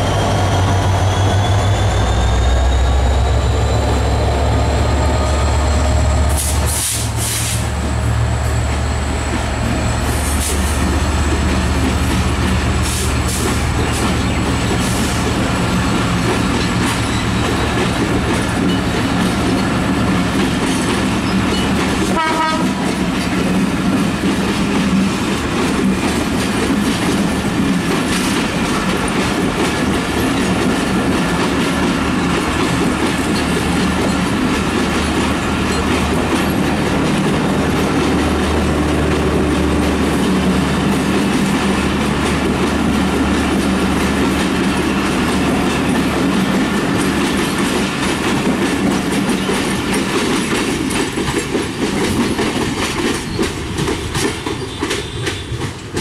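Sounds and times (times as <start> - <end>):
train coaches rolling past: 0.0 - 56.0.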